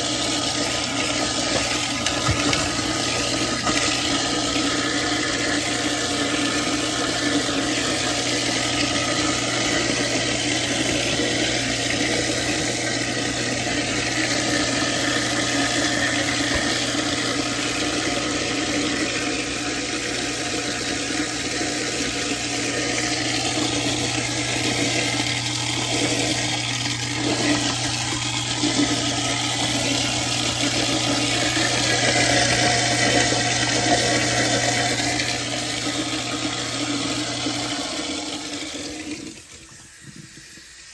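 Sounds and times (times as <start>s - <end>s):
garbage disposal motor hum: 0.0s - 40.9s
tap water pouring: 0.0s - 40.9s.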